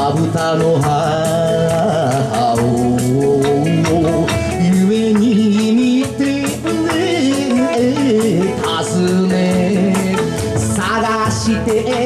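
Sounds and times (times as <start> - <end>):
band with guitar and keyboard: 0.0 - 12.0
man singing long notes: 0.0 - 12.0
percussive beat: 0.0 - 12.0.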